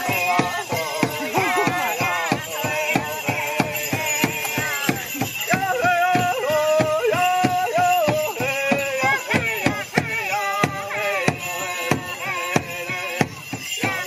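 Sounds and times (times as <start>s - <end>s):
drum steady beat: 0.0s - 14.0s.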